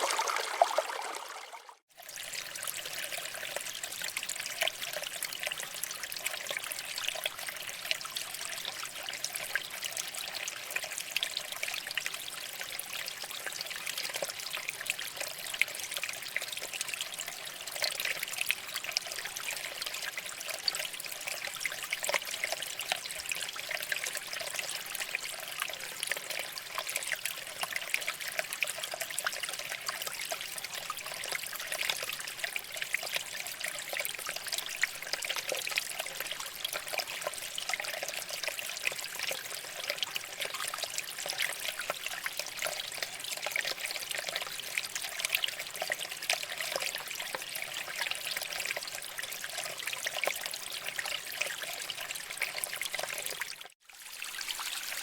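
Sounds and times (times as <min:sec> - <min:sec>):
stream water trickling over rocks: 0:00.0 - 0:55.0.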